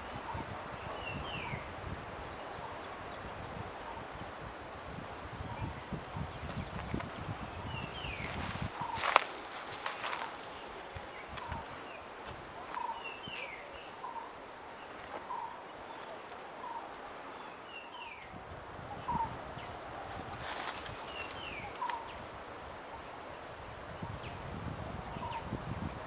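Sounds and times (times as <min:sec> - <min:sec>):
insects droning: 0:00.0 - 0:26.0
rustle: 0:00.0 - 0:26.0.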